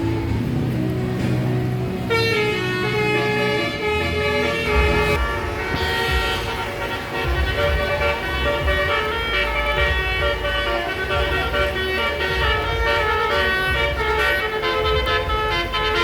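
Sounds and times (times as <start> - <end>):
bus engine rumbling: 0.0 - 16.0
multi-tone bus air horn melody: 2.0 - 16.0.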